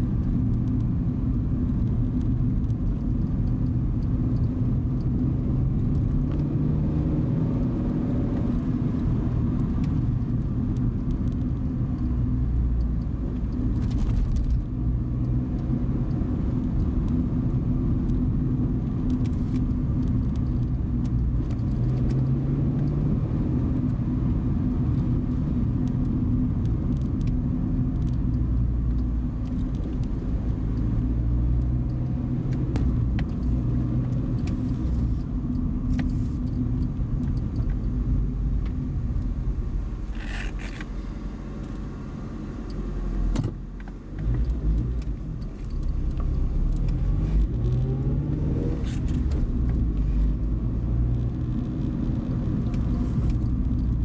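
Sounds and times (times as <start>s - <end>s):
car engine hum: 0.0s - 54.0s
low road rumble: 0.0s - 54.0s.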